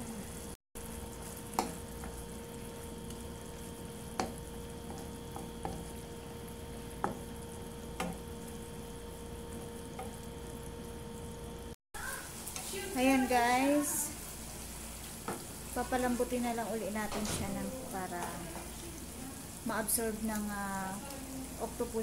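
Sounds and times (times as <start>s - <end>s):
octopus sizzling in a pan: 0.0s - 22.0s.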